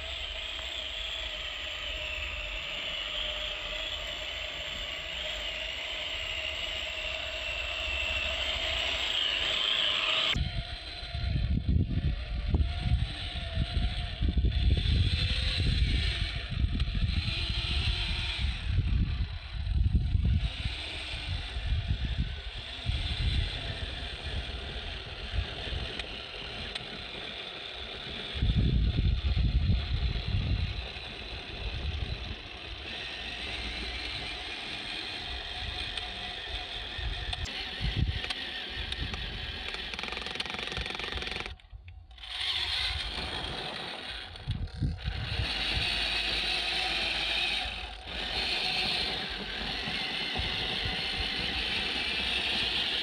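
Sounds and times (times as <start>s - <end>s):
toy car electric motor whining: 0.0s - 53.0s.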